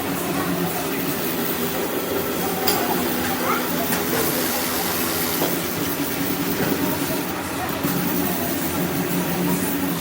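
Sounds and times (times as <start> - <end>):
machinery noise: 0.0 - 10.0.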